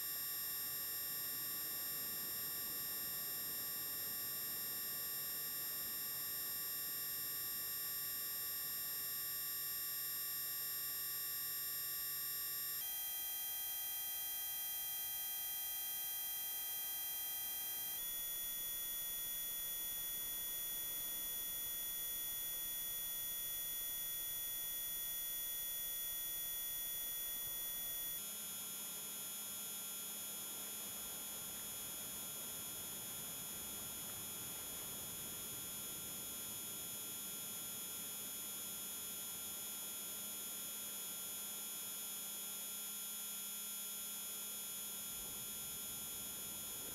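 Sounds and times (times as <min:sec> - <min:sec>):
high-pitched electronic sine tones: 0:00.0 - 0:38.2.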